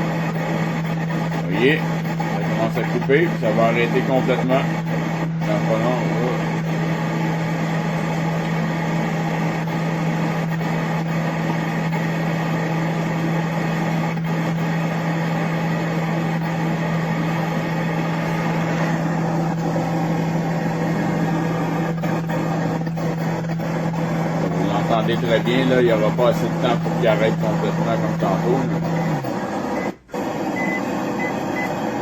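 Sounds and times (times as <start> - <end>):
microwave oven running: 0.0 - 32.0.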